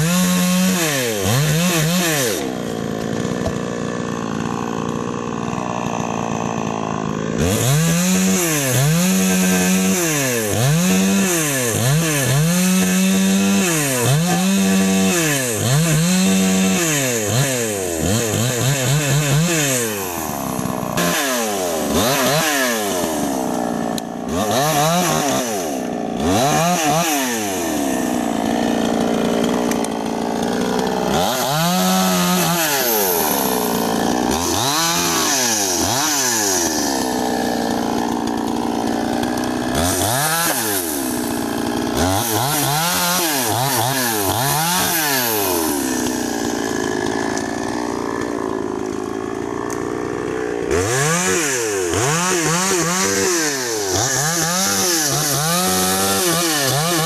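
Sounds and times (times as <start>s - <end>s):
chainsaw cutting branches: 0.0s - 57.0s.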